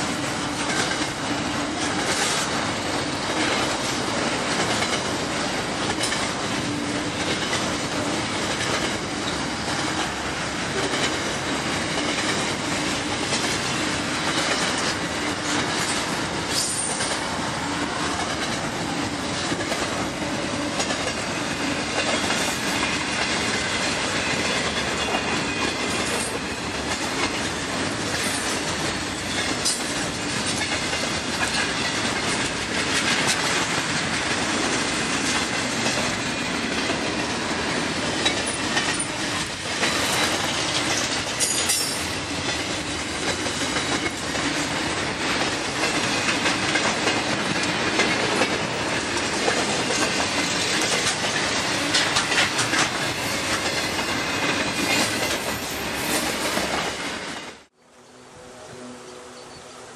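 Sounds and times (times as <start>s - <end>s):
freight train wheels clattering: 0.0s - 57.7s.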